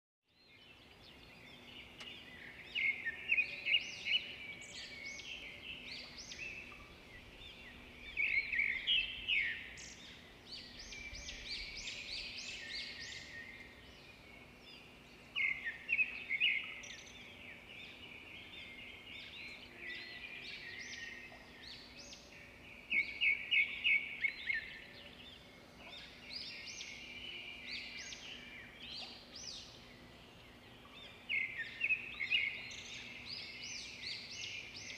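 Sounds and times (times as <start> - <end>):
songbirds chirping: 0.3 - 34.9.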